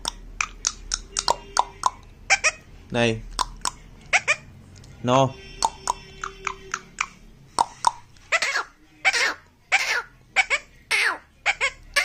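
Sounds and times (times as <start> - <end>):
parakeet squawks and chirps: 0.1 - 2.8, 3.4 - 4.6, 5.5 - 12.0.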